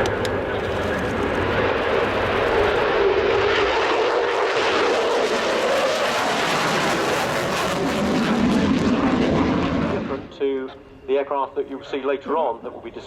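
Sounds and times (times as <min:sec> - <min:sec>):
jet fighters flying past: 0:00.0 - 0:13.0.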